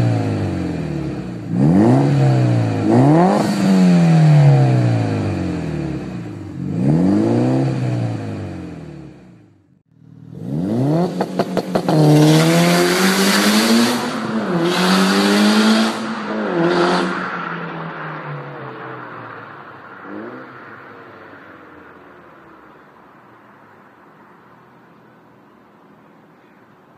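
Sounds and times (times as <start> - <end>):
car engine accelerating: 0.0 - 22.7.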